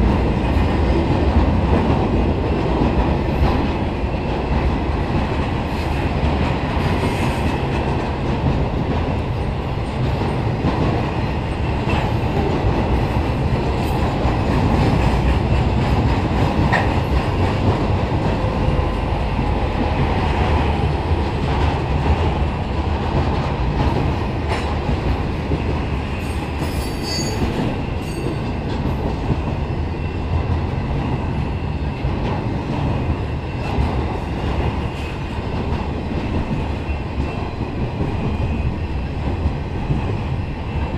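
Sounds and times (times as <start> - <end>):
freight train wheels rumbling on rail: 0.0 - 40.9
train clanks: 0.0 - 40.9.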